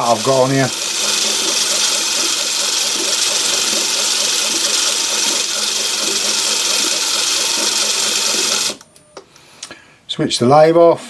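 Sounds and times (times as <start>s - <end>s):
lathe running: 0.0s - 8.9s.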